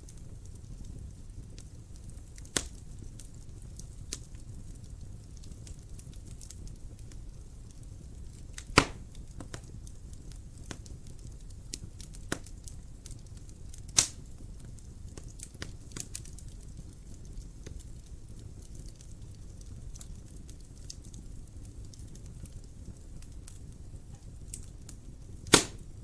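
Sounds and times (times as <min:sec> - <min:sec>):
loud fire pops: 0:00.0 - 0:26.0
wood fire crackling: 0:00.0 - 0:26.0.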